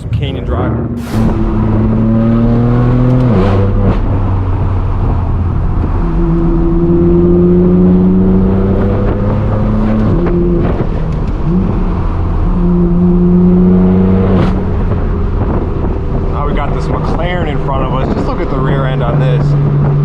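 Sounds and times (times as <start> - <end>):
loud car exhaust while driving: 0.7 - 20.0.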